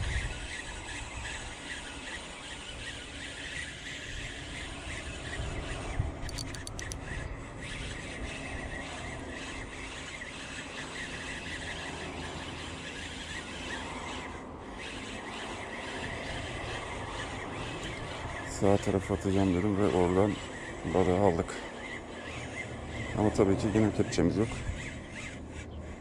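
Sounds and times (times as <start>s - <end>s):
fishing reel cranking with whine: 0.0s - 26.0s.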